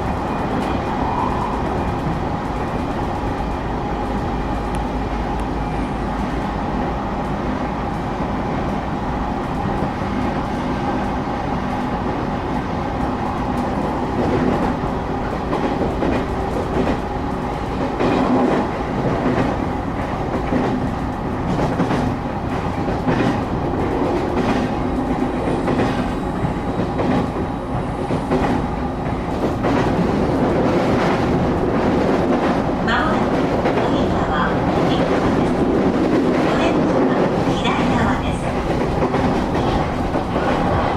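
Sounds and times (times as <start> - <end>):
train rumble and hum: 0.0 - 40.9.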